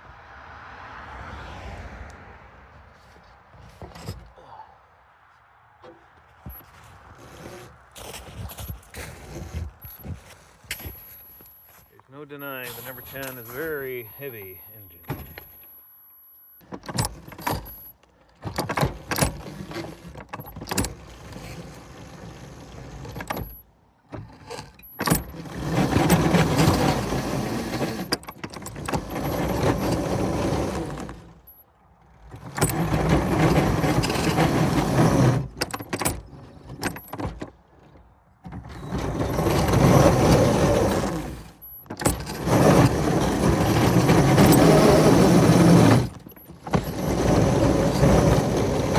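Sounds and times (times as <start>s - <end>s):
locomotives running under load: 6.4s - 23.6s, 24.2s - 48.9s.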